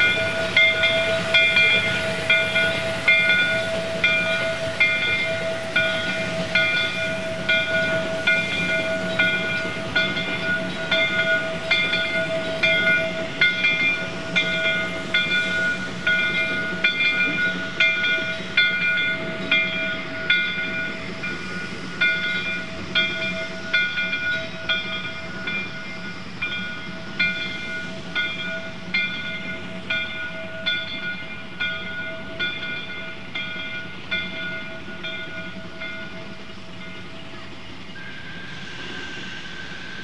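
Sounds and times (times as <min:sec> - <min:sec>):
low rumble of a train: 0:00.0 - 0:40.0
railroad bell ringing: 0:00.0 - 0:40.0.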